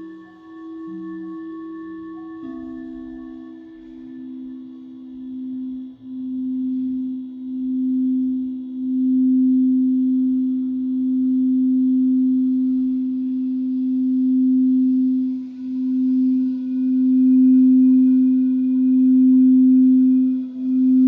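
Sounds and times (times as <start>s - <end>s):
singing bowl low tone: 0.0s - 21.0s.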